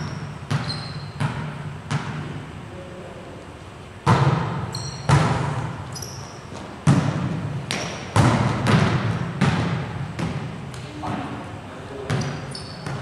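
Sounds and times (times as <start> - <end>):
sneakers squeaking on floor: 0.0 - 2.3, 4.1 - 11.3, 12.0 - 13.0.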